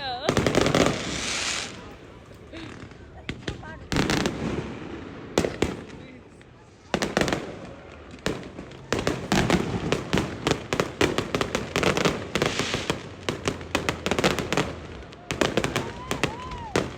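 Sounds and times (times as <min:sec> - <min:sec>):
fireworks bangs and pops: 0:00.0 - 0:16.9
fireworks crackling: 0:00.0 - 0:16.9.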